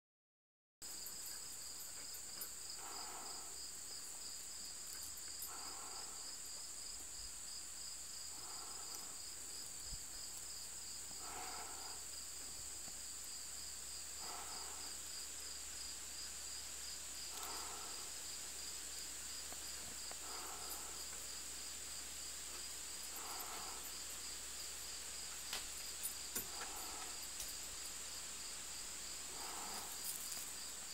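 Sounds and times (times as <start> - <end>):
lower short insect call: 0.8 - 30.9
rapidly pulsing insect trill: 0.8 - 30.9
steady high insect trill: 0.8 - 30.9.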